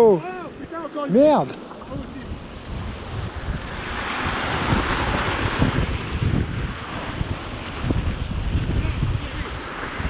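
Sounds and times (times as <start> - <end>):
wave washing over rocks: 0.0 - 10.0
wind buffeting microphone: 0.0 - 10.0.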